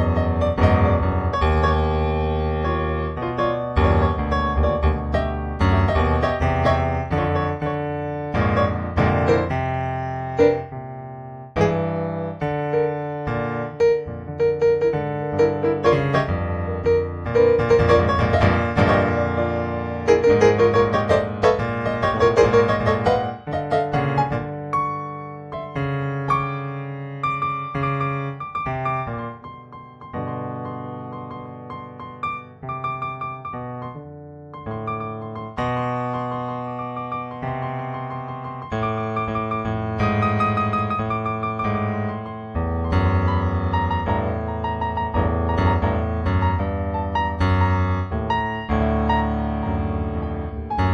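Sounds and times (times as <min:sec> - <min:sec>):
piano music: 0:00.0 - 0:50.9.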